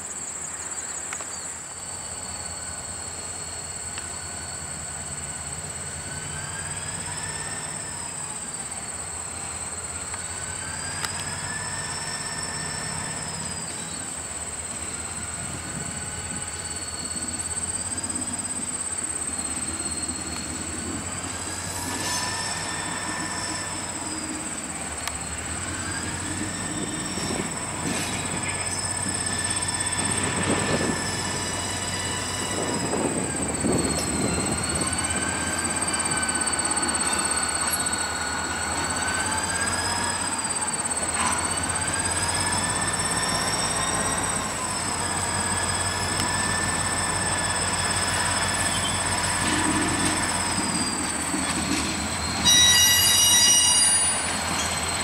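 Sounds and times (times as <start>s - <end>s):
insects trilling: 0.0s - 55.0s
locomotive engine rumbling: 0.0s - 55.0s
wheels squealing: 0.6s - 55.0s.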